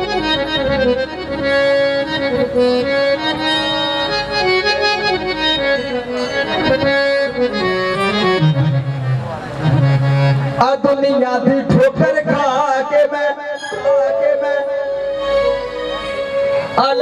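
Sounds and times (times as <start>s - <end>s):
reedy accordion-like melody: 0.0s - 10.8s, 13.0s - 17.0s.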